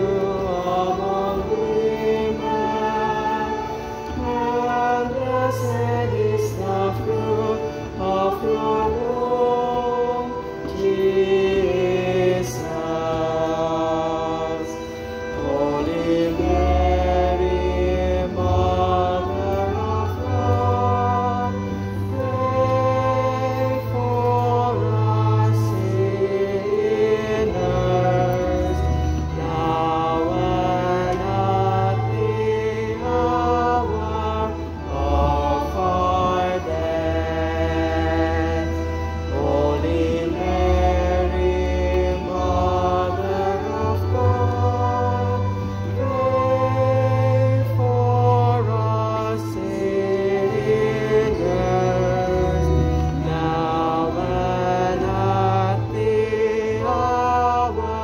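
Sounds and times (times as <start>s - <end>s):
church organ playing a hymn: 0.0s - 58.0s.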